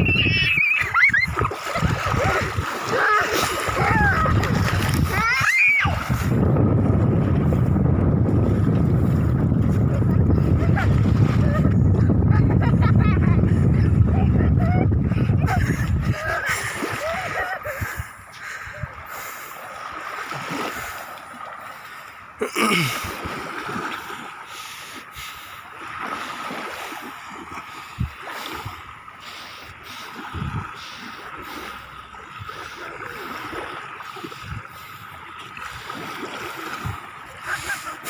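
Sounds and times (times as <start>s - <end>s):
feet splashing in shallow water: 0.0s - 38.0s
small waves lapping on shore: 0.0s - 38.0s.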